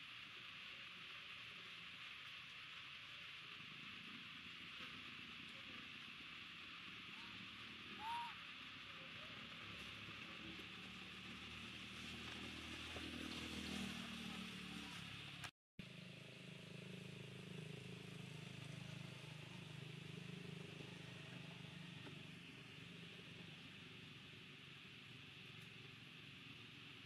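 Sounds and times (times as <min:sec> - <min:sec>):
outdoor hiss: 0:00.0 - 0:14.5, 0:15.2 - 0:27.0.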